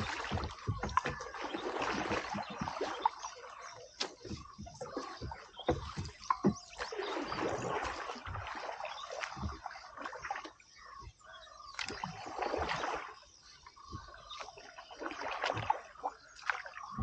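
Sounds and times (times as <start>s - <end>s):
oars swishing through water: 0.0s - 17.0s.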